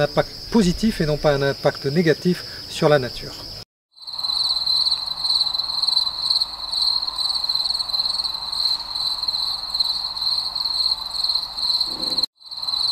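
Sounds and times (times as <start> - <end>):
crickets chirping: 0.0 - 12.9.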